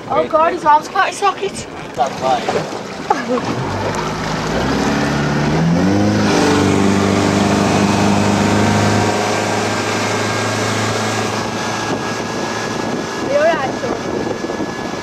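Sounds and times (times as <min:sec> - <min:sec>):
outboard motor revving: 0:00.0 - 0:15.0
rushing wake and wind: 0:00.0 - 0:15.0.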